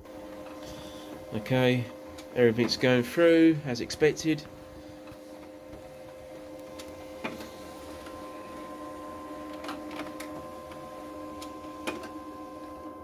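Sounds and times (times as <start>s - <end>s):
document feeder humming: 0.0s - 13.0s.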